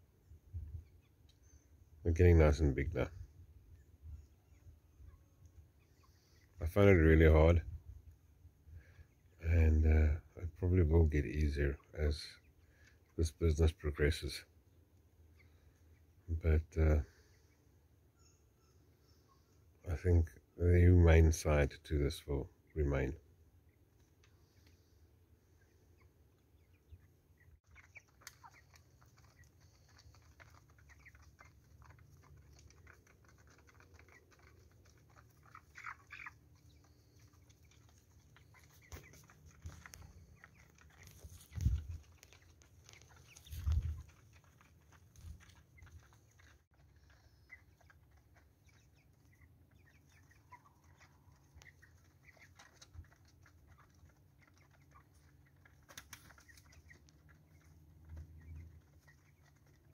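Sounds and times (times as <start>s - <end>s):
chicks cheeping: 0.0s - 59.9s.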